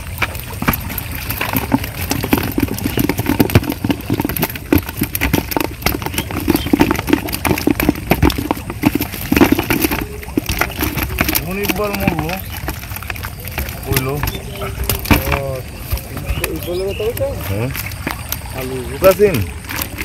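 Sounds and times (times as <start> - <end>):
small fish splashing: 0.0 - 20.0
water splashing in plastic bucket: 0.0 - 20.0.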